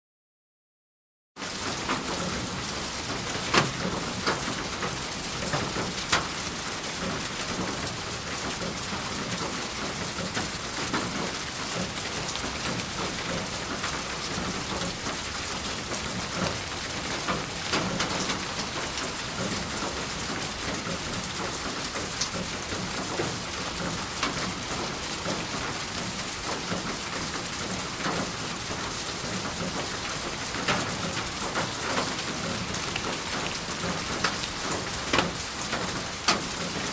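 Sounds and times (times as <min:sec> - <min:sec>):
raindrops hitting a surface: 0:01.4 - 0:36.9
steady rain falling: 0:01.4 - 0:36.9.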